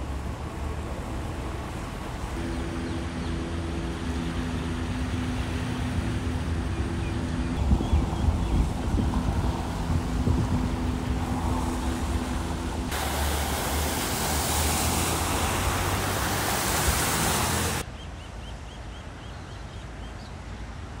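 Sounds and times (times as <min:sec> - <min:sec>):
engines idling: 0:00.0 - 0:17.8
water washing: 0:00.0 - 0:17.8
van rushing through floodwater: 0:00.0 - 0:17.9.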